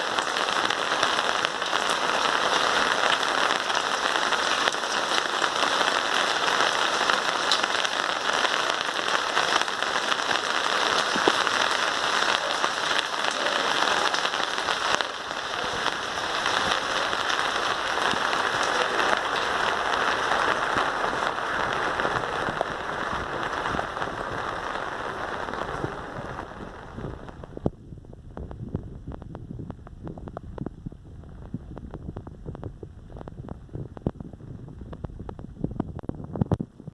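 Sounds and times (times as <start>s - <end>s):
rain on hard surfaces: 0.0s - 36.9s.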